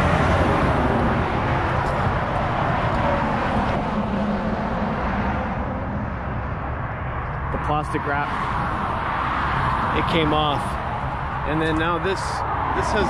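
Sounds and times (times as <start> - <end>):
rumble of vehicle traffic: 0.0 - 13.0.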